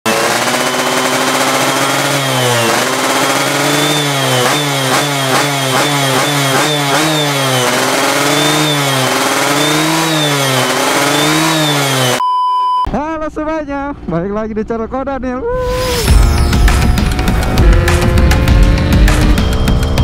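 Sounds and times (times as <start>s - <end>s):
motorcycle engine revving: 0.0s - 12.2s, 15.7s - 20.0s.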